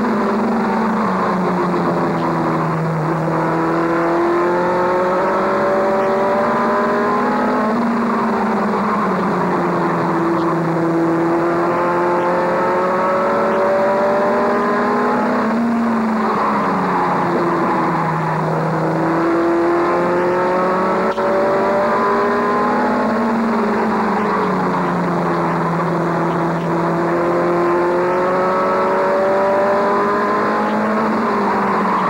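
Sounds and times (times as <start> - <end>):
truck engine at racing speed: 0.0 - 32.0.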